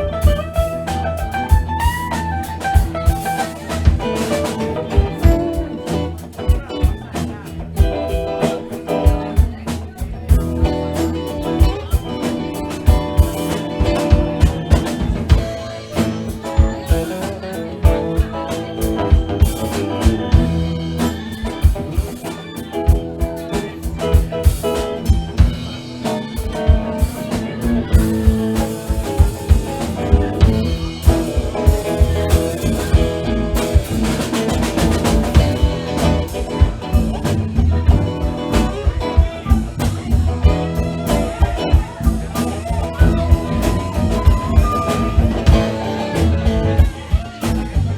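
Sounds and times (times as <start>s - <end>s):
drum kit beat: 0.0s - 47.9s
guitar: 0.0s - 47.9s
live band playing blues boogie: 0.0s - 47.9s.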